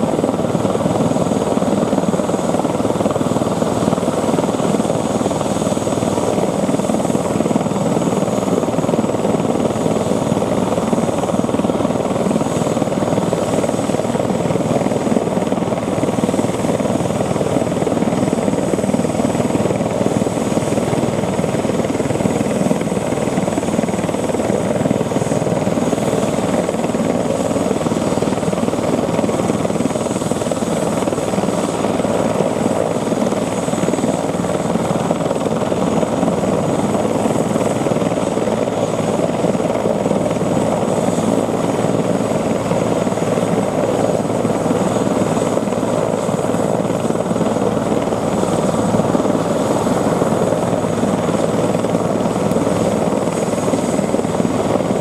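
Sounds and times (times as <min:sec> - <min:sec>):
helicopter rotor and turbine: 0:00.0 - 0:55.0.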